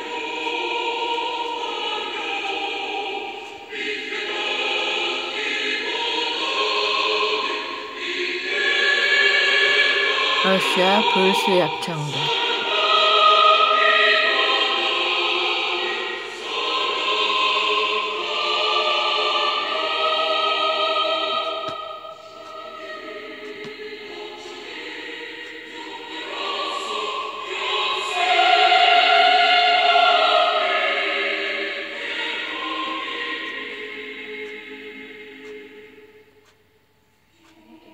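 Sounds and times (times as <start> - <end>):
choir singing long notes: 0.0 - 36.4, 37.5 - 37.9.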